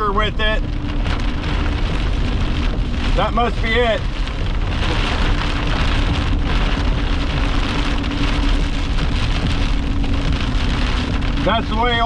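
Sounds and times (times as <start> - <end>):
constant low hum: 0.0 - 12.0
heavy rain hitting a vehicle: 0.0 - 12.0.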